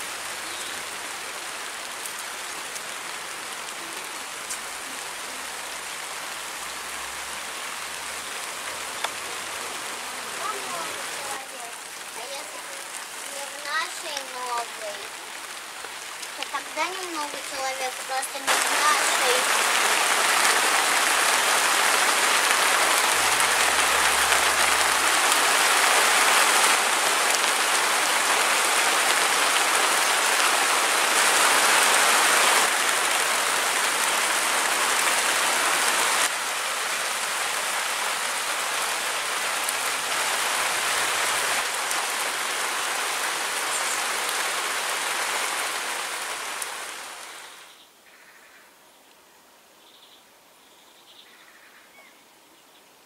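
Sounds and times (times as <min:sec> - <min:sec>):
steady rain falling: 0:00.0 - 0:50.7.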